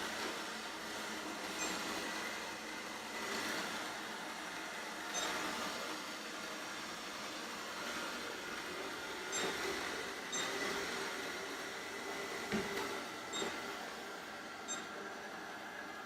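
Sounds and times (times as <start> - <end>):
robot vacuum whirring hum: 0.0 - 16.0.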